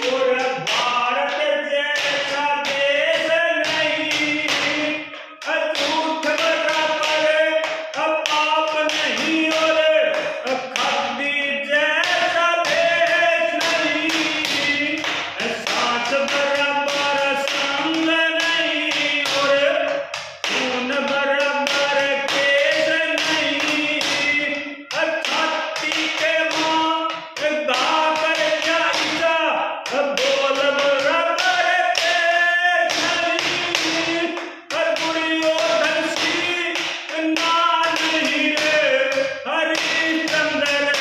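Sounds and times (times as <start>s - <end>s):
man singing unaccompanied: 0.0s - 41.0s
steady tapping beat: 0.0s - 41.0s.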